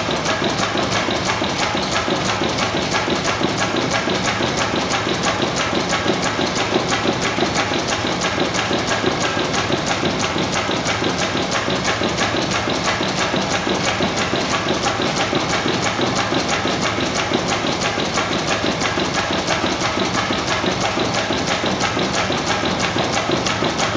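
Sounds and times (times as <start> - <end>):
stationary engine clattering: 0.0 - 23.9.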